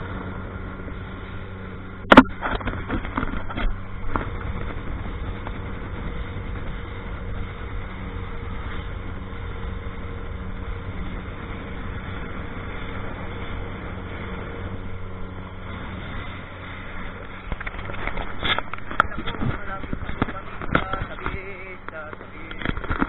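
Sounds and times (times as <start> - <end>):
boat engine humming: 0.0 - 23.0
water splashing along hull: 0.0 - 23.0.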